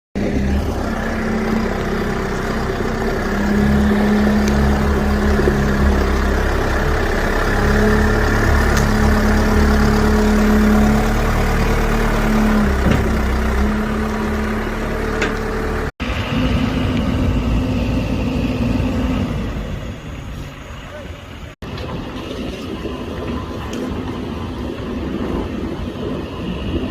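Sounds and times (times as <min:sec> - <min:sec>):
diesel engine running: 0:00.2 - 0:26.9.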